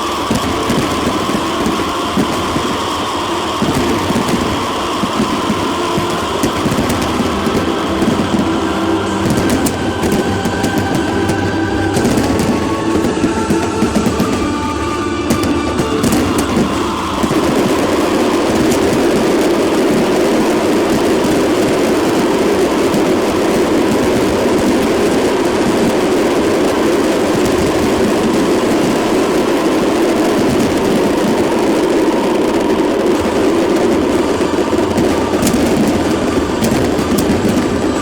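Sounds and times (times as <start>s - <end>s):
moving vehicle rumble: 0.0s - 38.0s.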